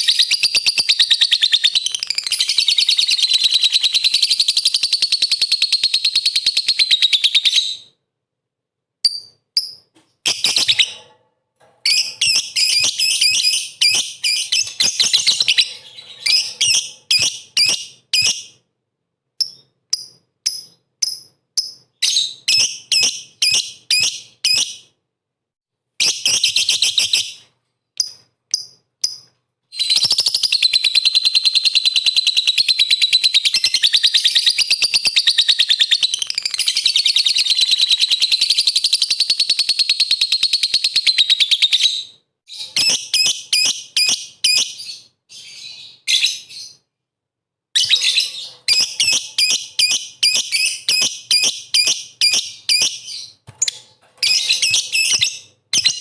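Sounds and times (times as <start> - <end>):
lovebird chirps and calls: 0.0 - 7.9, 9.0 - 11.0, 11.8 - 18.6, 19.4 - 24.9, 26.0 - 46.9, 47.8 - 56.0.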